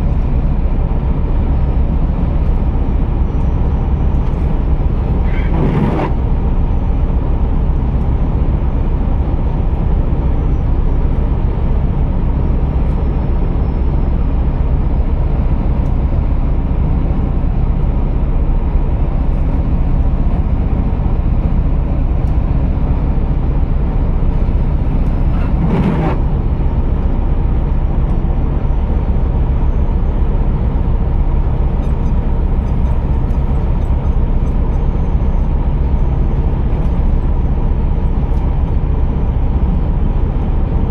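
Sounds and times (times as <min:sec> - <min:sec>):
road noise: 0:00.0 - 0:40.9
truck diesel engine droning: 0:00.0 - 0:40.9.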